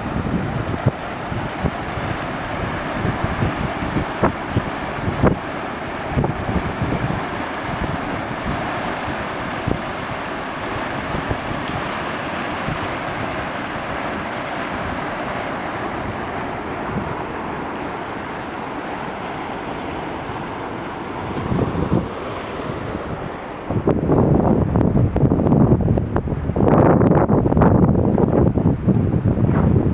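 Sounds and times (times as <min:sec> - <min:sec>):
waterfall roaring: 0:00.0 - 0:25.1
wind buffeting microphone: 0:00.0 - 0:29.9.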